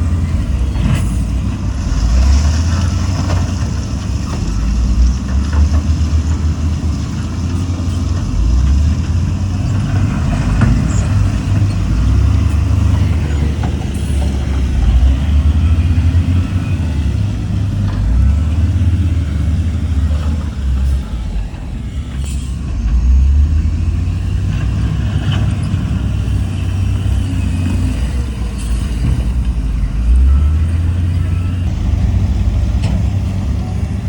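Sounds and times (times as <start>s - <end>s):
heavy diesel engine rumbling: 0.0s - 34.0s.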